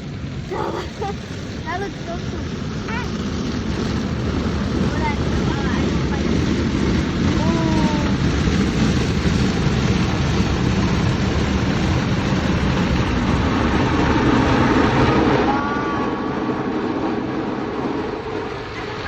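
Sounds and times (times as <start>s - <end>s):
car wash machinery rushing: 0.0s - 19.0s.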